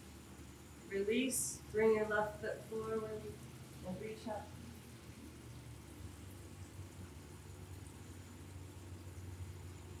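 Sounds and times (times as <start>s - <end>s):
faint hiss: 0.0s - 10.0s
steady low hum: 0.0s - 10.0s.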